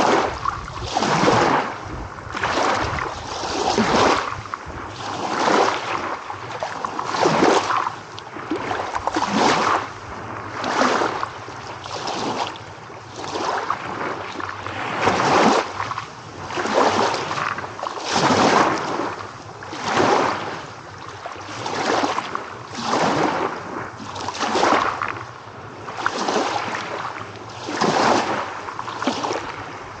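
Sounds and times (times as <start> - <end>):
small waves washing: 0.0 - 30.0.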